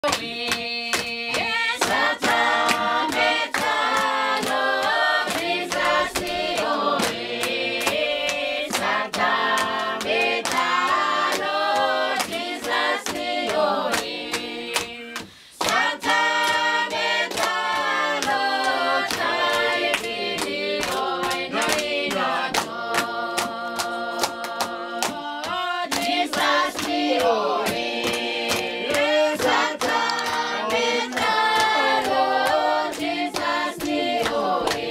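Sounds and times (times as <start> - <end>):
congregation singing a hymn: 0.0 - 34.9.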